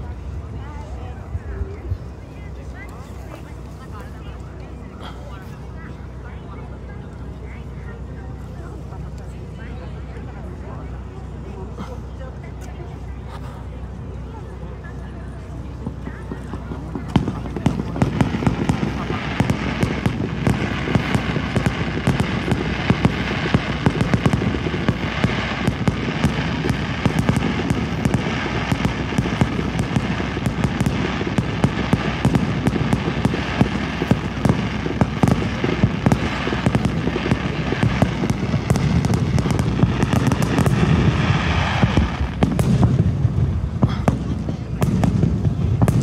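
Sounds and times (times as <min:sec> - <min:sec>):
fireworks crackling and popping: 0:01.6 - 0:11.0, 0:12.0 - 0:46.0.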